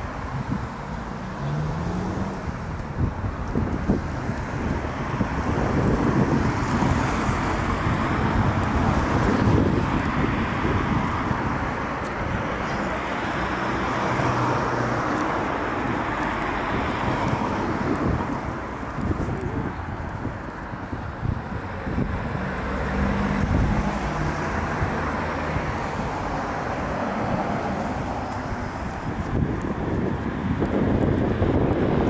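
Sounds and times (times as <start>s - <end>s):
cars driving past: 0.0s - 32.0s.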